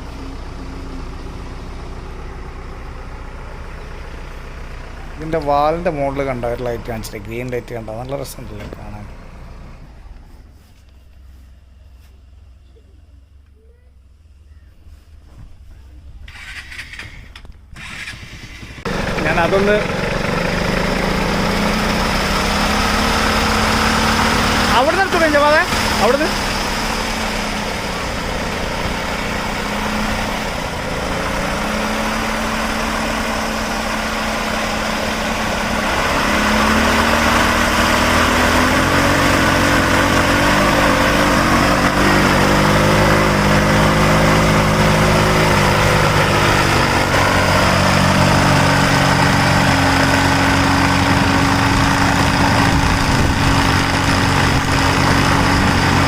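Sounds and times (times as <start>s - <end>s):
single-cylinder engine driving propeller: 0.0s - 10.3s, 16.2s - 56.0s.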